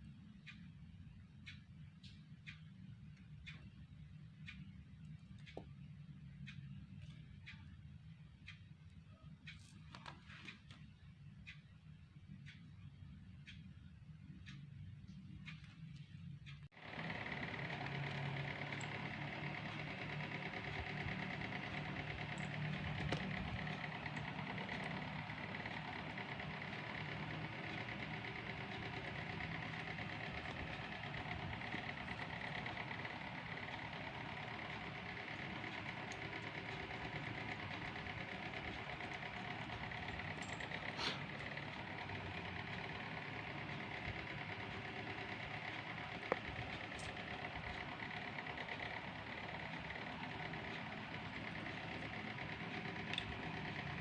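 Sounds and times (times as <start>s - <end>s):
small machine humming: 0.0s - 54.0s.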